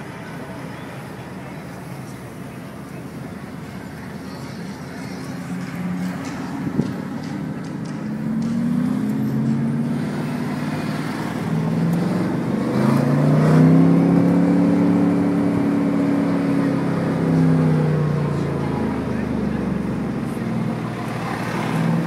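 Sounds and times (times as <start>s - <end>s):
car engine accelerating: 3.3s - 22.0s.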